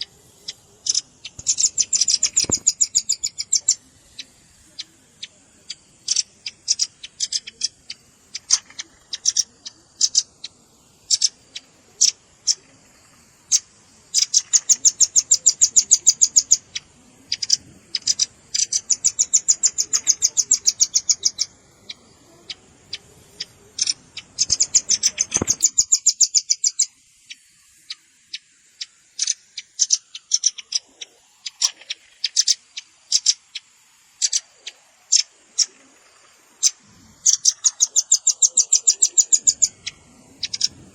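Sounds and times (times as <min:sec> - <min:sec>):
bird chip notes and trills: 0:00.0 - 0:40.9.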